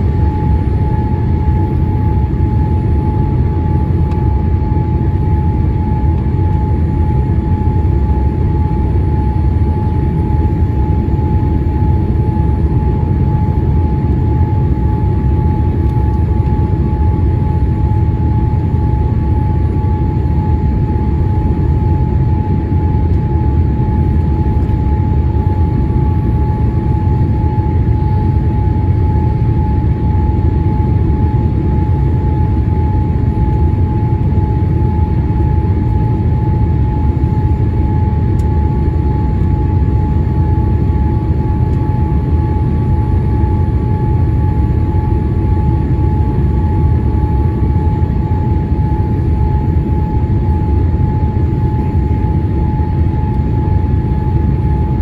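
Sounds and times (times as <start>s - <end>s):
airliner cabin rumble: 0.0s - 55.0s
steady high hum: 0.0s - 55.0s.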